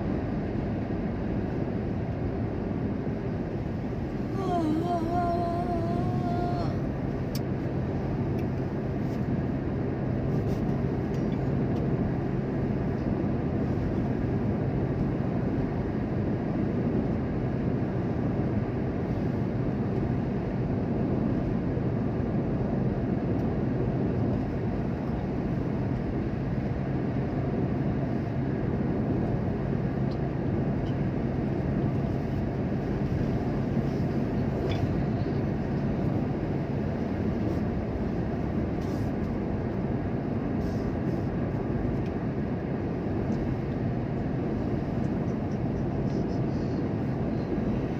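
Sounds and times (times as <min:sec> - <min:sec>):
moving vehicle engine and road noise: 0:00.0 - 0:47.9.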